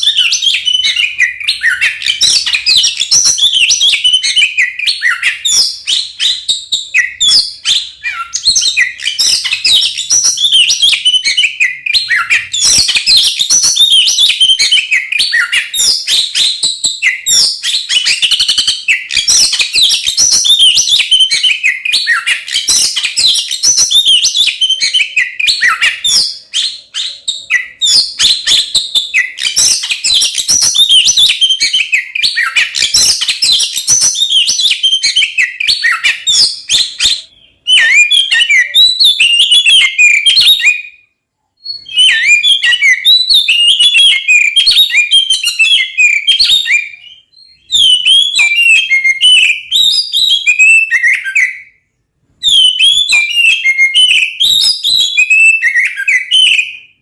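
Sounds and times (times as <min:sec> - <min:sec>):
bird whistles and chirps: 0:00.0 - 0:57.0.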